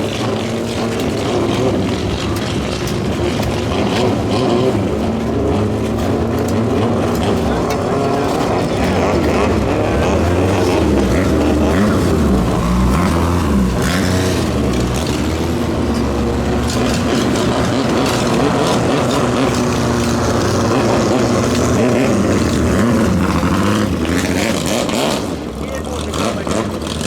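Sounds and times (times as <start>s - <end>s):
racing boat engine running: 0.0s - 27.0s.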